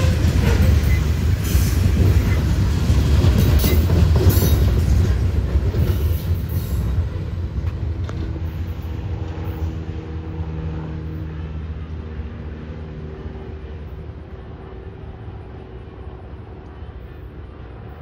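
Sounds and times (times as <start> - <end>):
freight train rolling on rails: 0.0 - 18.0.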